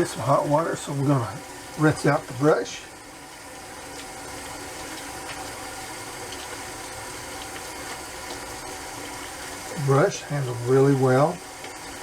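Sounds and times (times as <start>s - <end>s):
shaving brush being rinsed: 0.0s - 12.0s
water running from a tap: 0.0s - 12.0s.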